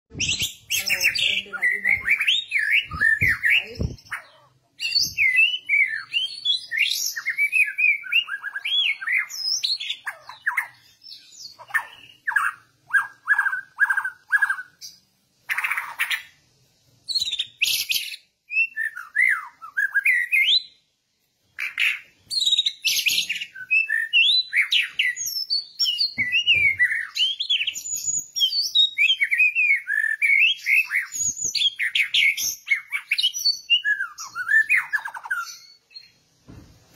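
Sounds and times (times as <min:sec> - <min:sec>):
bird singing whistled song: 0:00.1 - 0:16.3, 0:17.0 - 0:20.8, 0:21.6 - 0:36.2.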